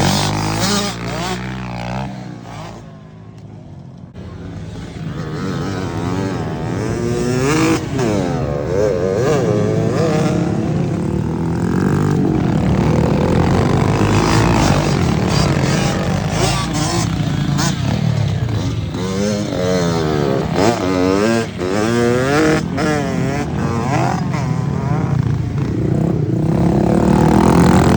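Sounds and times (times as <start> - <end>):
small motorbike engines revving: 0.0 - 27.9.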